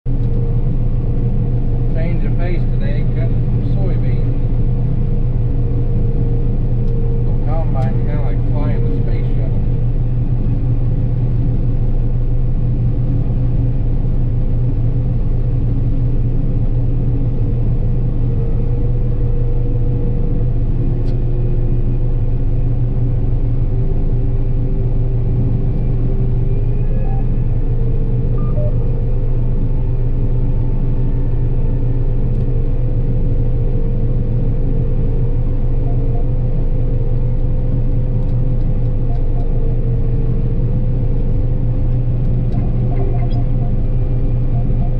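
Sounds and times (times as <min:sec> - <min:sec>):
combine harvester drone: 0:00.1 - 0:44.9
faint high whine: 0:00.1 - 0:44.9.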